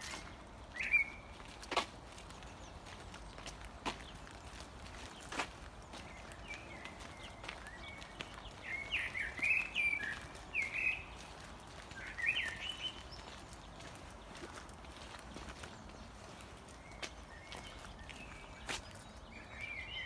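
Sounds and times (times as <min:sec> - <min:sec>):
footsteps on gravel: 0:00.0 - 0:20.0
songbird singing: 0:00.0 - 0:20.0.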